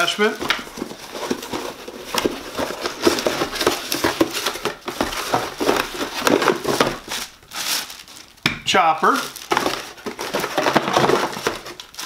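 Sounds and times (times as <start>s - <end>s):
cardboard box rustling: 0.0s - 8.3s, 9.0s - 12.0s
plastic packaging crinkling: 0.0s - 12.0s.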